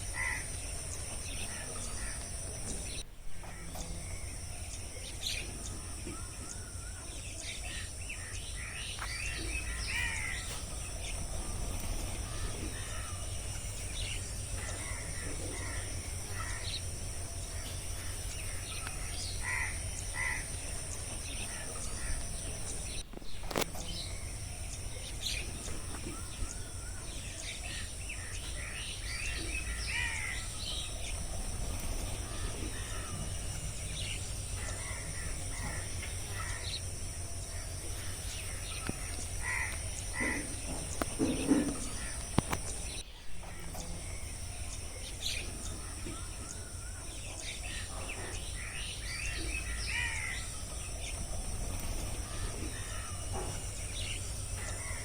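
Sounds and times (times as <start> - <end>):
birds chirping and calling: 0.0 - 55.0
high insect drone: 0.0 - 55.0.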